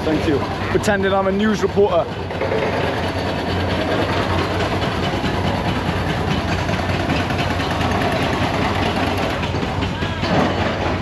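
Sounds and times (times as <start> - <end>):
heavy engines idling: 0.0 - 11.0.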